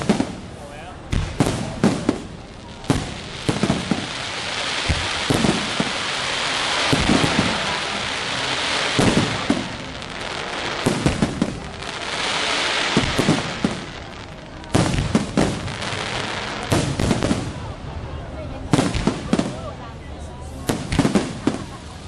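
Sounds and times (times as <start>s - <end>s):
firework shells booming: 0.0s - 17.8s, 18.7s - 19.6s, 20.7s - 21.9s
crackling firework hiss: 0.0s - 22.0s.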